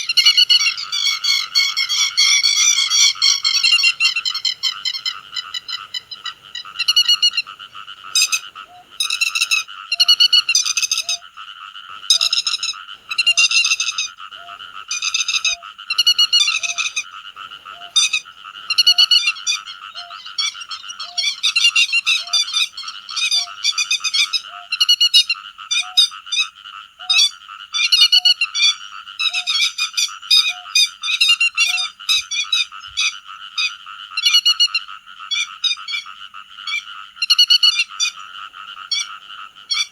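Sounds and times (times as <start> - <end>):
background bird chorus: 0.0 - 39.9
lapwing calling: 0.0 - 39.9.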